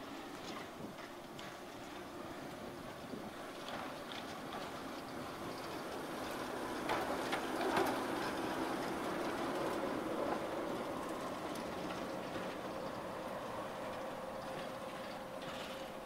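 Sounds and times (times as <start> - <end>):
diesel locomotive engine humming: 0.0 - 16.0.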